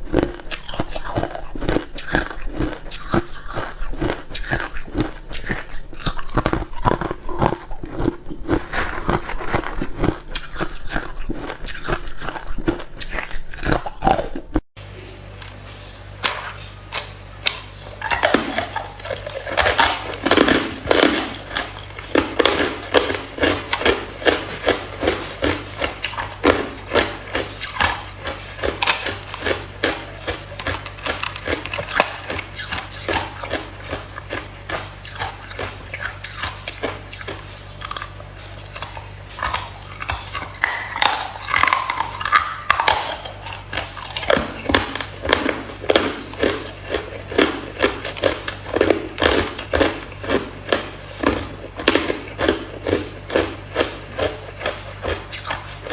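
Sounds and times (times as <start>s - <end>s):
ice being chewed: 0.0s - 14.6s, 15.3s - 55.9s.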